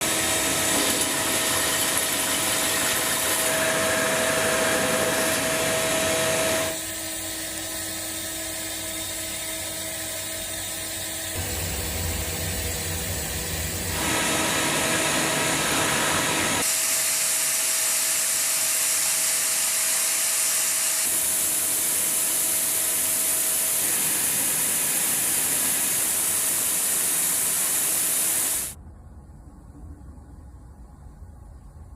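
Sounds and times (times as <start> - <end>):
cnc machine running: 0.0 - 28.8.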